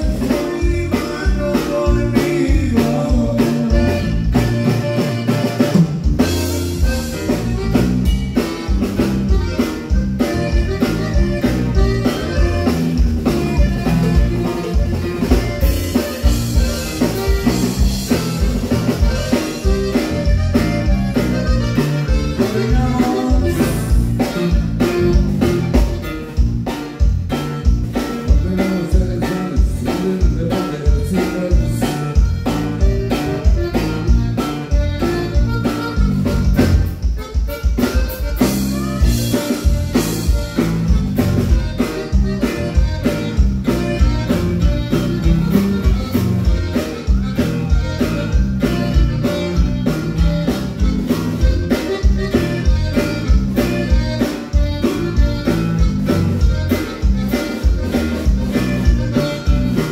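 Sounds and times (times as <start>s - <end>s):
accordion: 0.0s - 59.9s
acoustic guitar: 0.0s - 59.9s
electric bass: 0.0s - 59.9s
steady beat: 0.0s - 59.9s.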